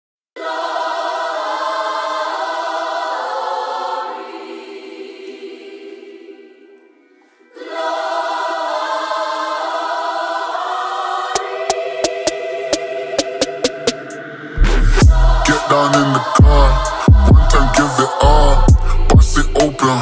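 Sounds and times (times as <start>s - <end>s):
choir-like chord of voices: 0.4s - 20.0s.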